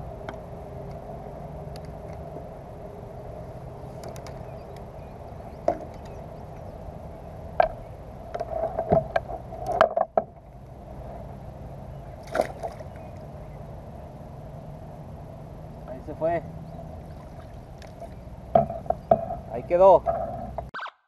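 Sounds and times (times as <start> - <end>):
low hum: 0.0 - 20.7.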